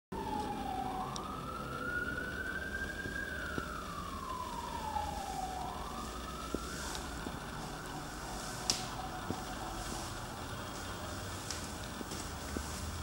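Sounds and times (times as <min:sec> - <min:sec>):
emergency vehicle siren wailing: 0:00.1 - 0:13.0
low steady rumble: 0:00.2 - 0:13.0.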